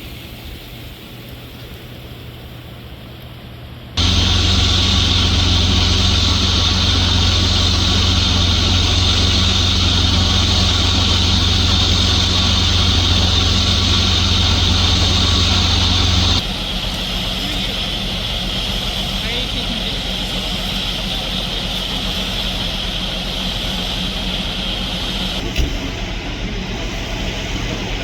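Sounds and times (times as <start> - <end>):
engine idling: 4.0 - 28.0.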